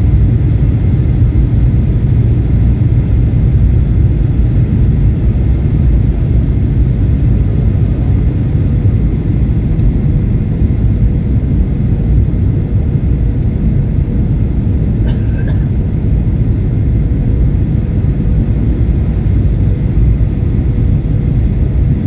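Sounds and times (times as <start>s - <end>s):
jet engine cabin rumble: 0.0s - 22.0s.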